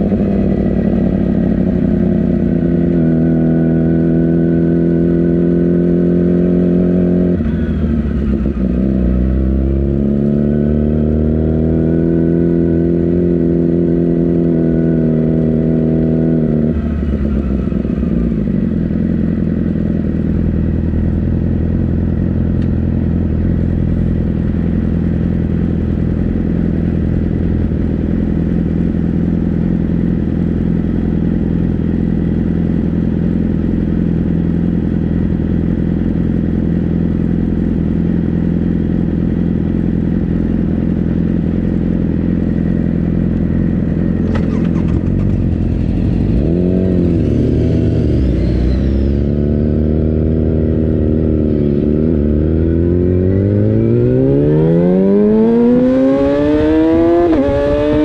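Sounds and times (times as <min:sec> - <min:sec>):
motorcycle engine at low revs: 0:00.0 - 0:58.0.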